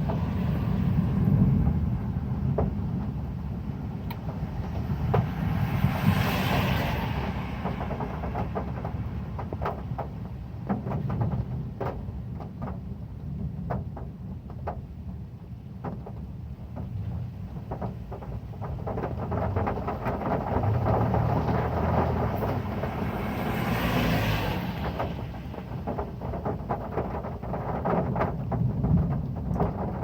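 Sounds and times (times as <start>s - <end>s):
heavy rain on a metal roof: 0.0s - 30.0s
raindrops ticking on metal: 0.0s - 30.0s.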